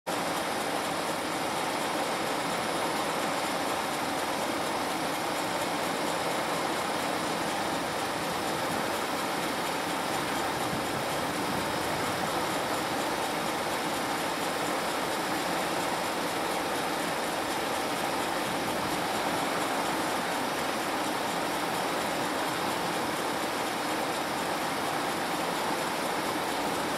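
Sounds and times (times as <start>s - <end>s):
diesel locomotives running: 0.1s - 26.9s.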